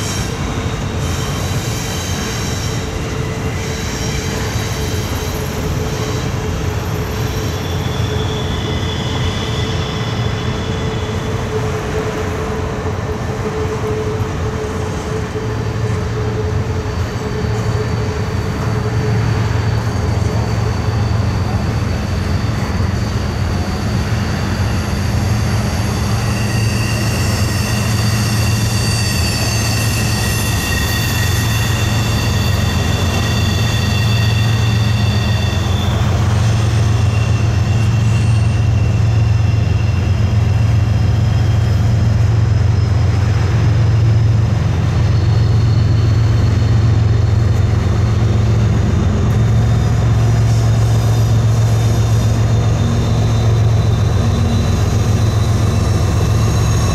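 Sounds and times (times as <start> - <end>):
freight train rumbling by: 0.0 - 56.9
steel wheels squealing: 0.0 - 56.9.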